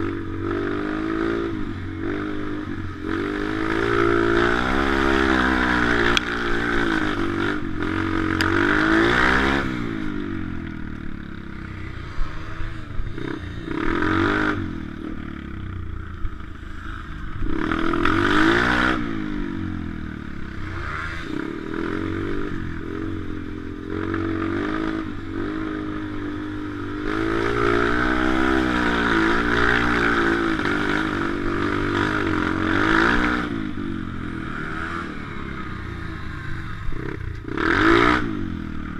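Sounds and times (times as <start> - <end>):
pit bike engine revving: 0.0 - 38.9.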